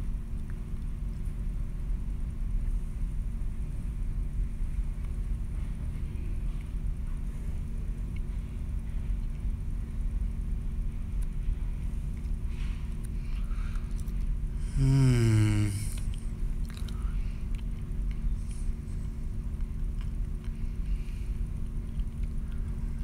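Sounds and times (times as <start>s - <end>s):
ventilation machinery hum: 0.0s - 23.0s.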